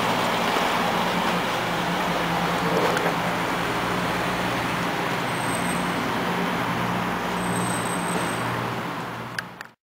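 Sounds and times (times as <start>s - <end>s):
traffic engine hum: 0.0s - 9.8s.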